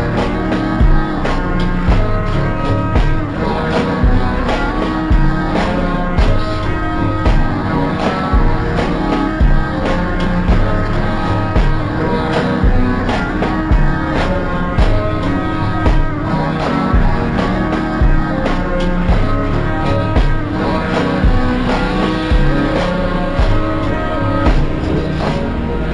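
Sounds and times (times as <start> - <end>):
deep kick drum: 0.0 - 25.6
slowed rap track: 0.0 - 25.9
sustained melodic notes: 0.0 - 25.9.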